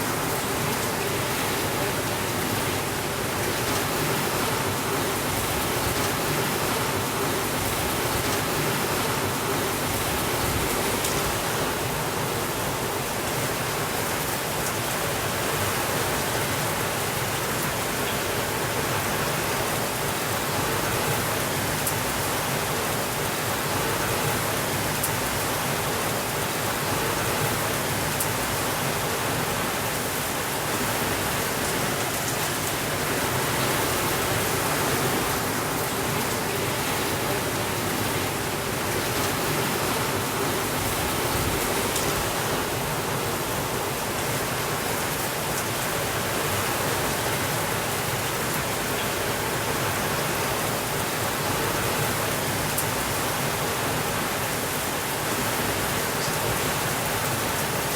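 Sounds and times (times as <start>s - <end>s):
steady rainfall: 0.0s - 57.9s.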